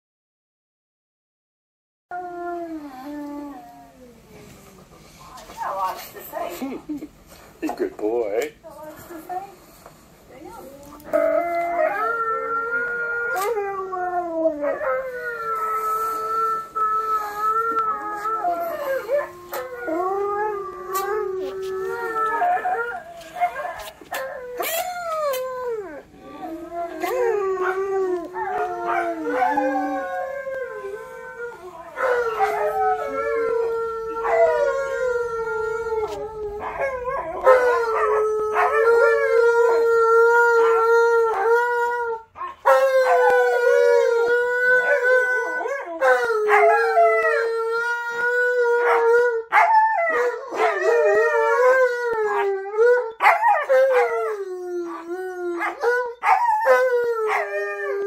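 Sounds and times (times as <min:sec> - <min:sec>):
dogs howling: 0:10.6 - 0:58.0.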